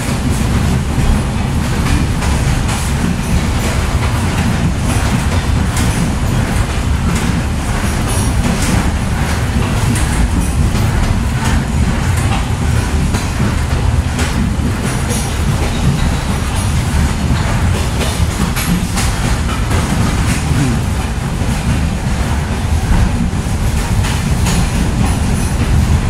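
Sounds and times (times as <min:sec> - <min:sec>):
train clacks and rattles: 0:00.0 - 0:26.0
train wheels rumbling on rails: 0:00.0 - 0:26.0.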